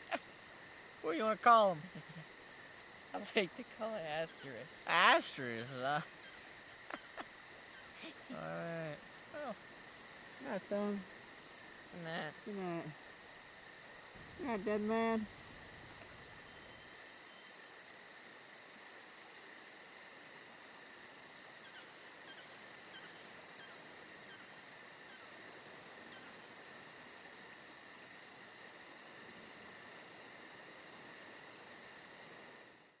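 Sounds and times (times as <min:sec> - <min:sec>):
crickets chirping: 0:00.0 - 0:33.0
steady high insect trill: 0:00.0 - 0:33.0.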